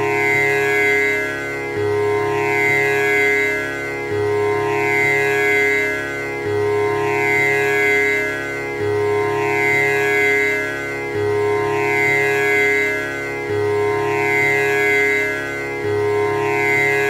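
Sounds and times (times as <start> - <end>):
tanpura drone: 0.0 - 17.0.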